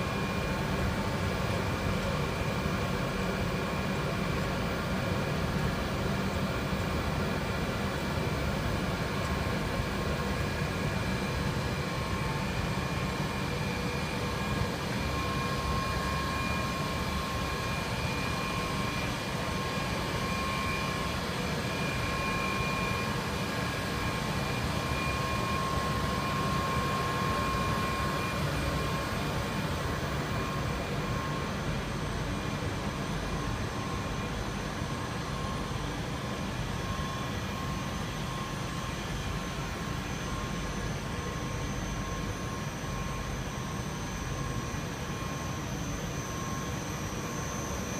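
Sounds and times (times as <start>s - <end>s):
faint steady whine: 0.0s - 47.9s
machinery hum and rumble: 0.0s - 47.9s.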